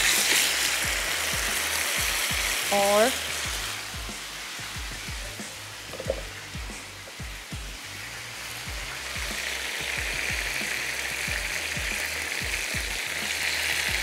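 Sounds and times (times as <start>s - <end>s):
meat sizzling in hot oil: 0.0s - 14.0s
soft background music beat: 0.0s - 14.0s.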